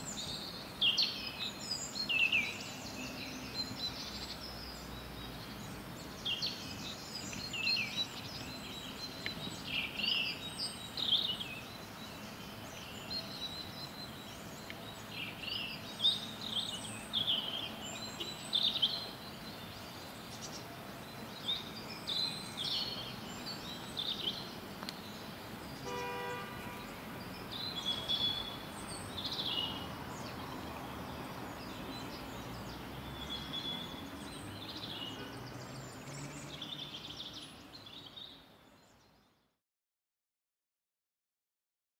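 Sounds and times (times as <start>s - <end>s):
songbirds chirping and trilling: 0.0s - 39.6s.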